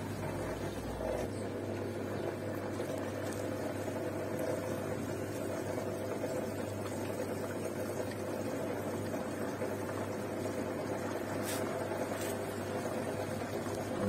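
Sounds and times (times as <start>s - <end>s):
drain pump humming: 0.0s - 14.0s
water gurgling: 0.0s - 14.0s.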